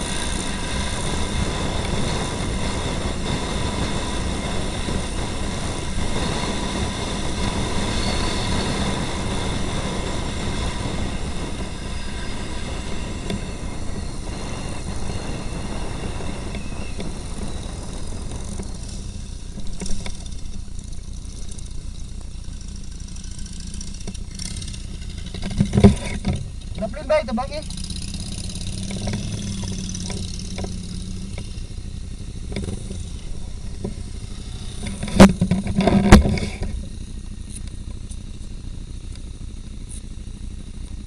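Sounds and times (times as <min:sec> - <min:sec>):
wind noise: 0:00.0 - 0:38.0
motorcycle engine: 0:00.0 - 0:41.0.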